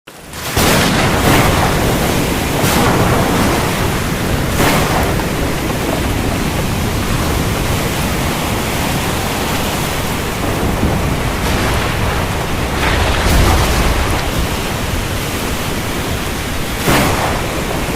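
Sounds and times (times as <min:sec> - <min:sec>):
heavy rain: 0:00.1 - 0:17.9
low rumble of thunder: 0:00.6 - 0:17.9.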